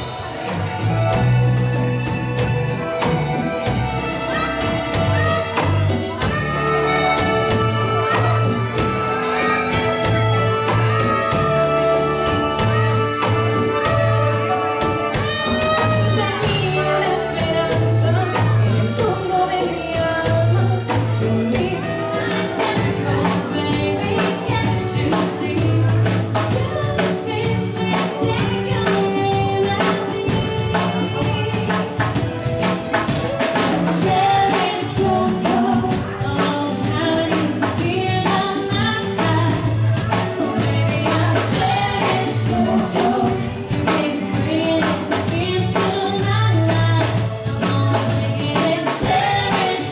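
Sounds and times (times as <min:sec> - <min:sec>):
bass line: 0:00.0 - 0:49.9
live band music: 0:00.0 - 0:49.9
percussion beat: 0:00.0 - 0:49.9
person singing: 0:02.2 - 0:49.9.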